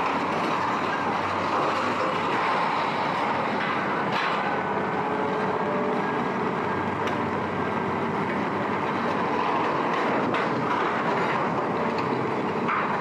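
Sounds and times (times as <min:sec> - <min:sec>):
heavy vehicle running: 0:00.0 - 0:13.0.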